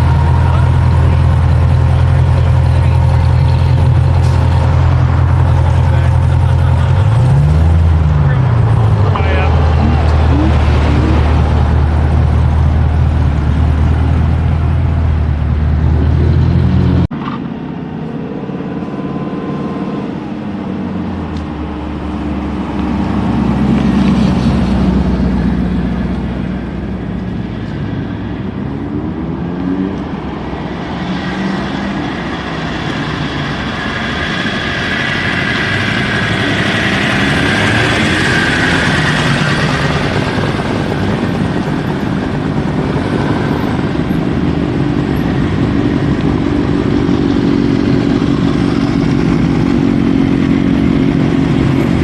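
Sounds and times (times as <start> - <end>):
vehicle engine running: 0.0 - 28.9, 31.7 - 52.0.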